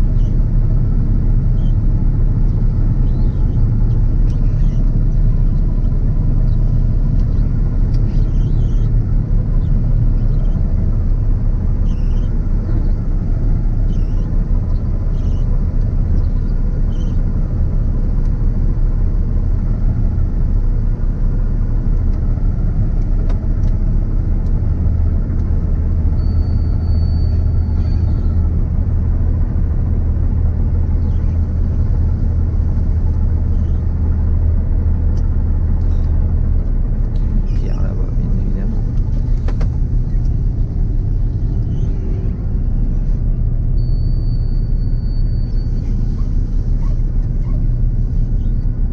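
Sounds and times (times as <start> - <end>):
combine harvester rumble: 0.0 - 48.9.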